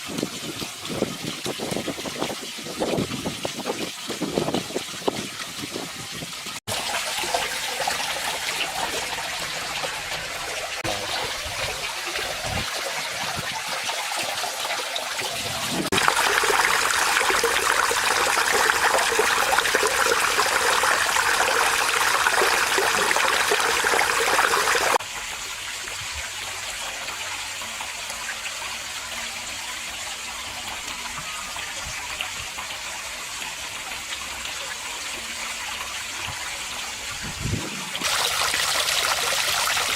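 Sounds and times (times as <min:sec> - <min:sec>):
water trickling down waterfall: 0:00.0 - 0:39.9.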